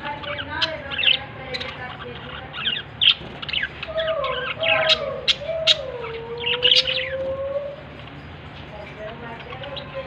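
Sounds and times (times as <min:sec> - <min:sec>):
budgies chattering: 0:00.0 - 0:10.0.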